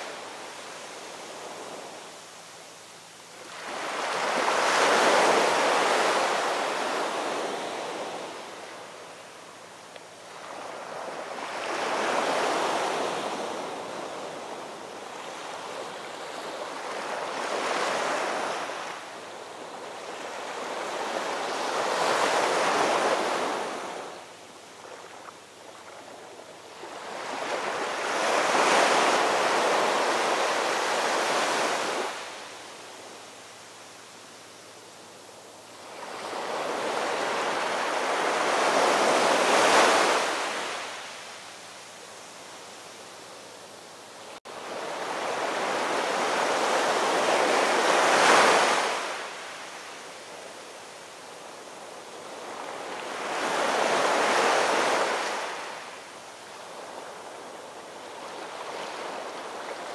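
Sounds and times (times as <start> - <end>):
heavy surf waves breaking: 3.4 - 9.0, 10.4 - 25.2, 26.0 - 33.0, 35.8 - 41.4, 44.2 - 50.5, 51.1 - 59.9.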